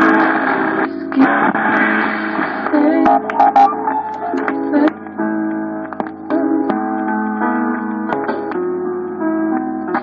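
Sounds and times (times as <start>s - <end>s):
record player music: 0.0s - 10.0s.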